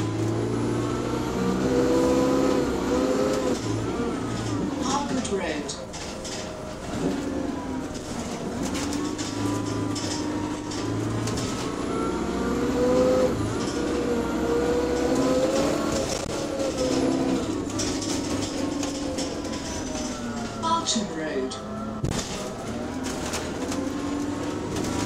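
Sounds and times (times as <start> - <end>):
bus engine moaning: 0.0 - 25.0
interior rattles and clicks: 2.5 - 25.0.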